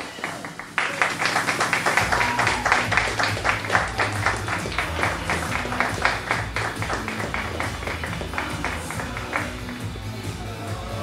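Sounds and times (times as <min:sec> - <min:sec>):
rhythmic clapping: 0:00.0 - 0:11.0
upbeat music with bass line: 0:00.0 - 0:11.0.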